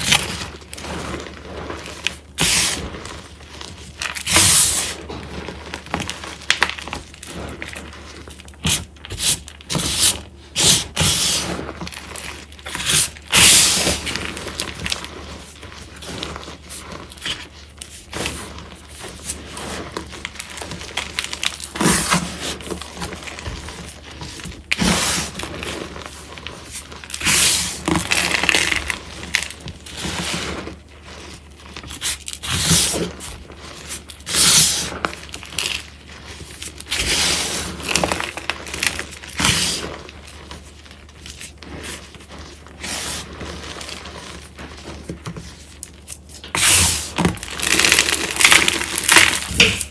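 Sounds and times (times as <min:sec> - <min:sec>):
chalk blocks crunching: 0:00.0 - 0:49.9.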